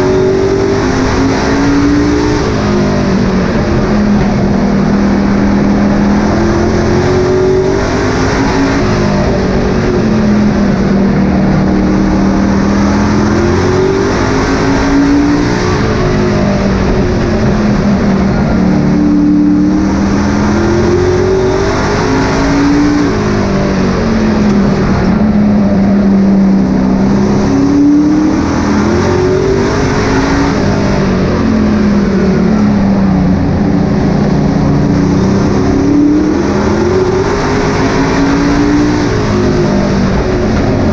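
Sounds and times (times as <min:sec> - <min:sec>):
racing truck engines running hard: 0:00.0 - 0:40.9.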